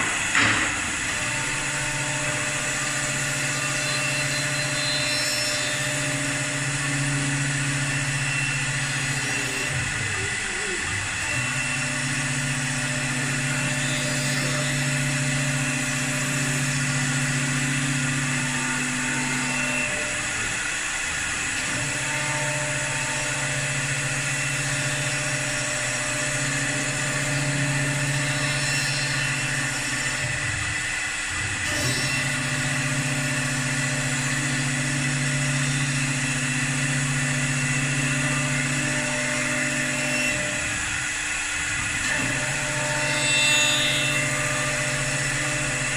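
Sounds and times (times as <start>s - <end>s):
wood lathe hum with whine: 0.0s - 45.9s.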